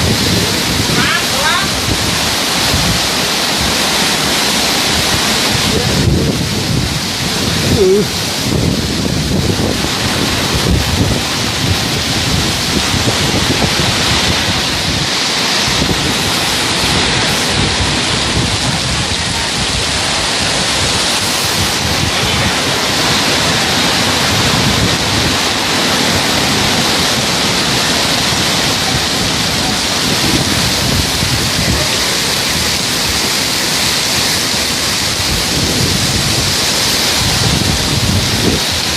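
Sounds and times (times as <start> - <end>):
heavy rain downpour: 0.0 - 38.9
wind gusting: 0.0 - 38.9.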